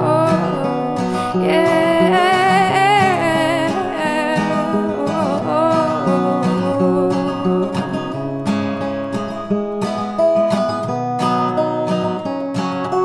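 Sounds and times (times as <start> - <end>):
acoustic guitar song with singing: 0.0 - 13.0.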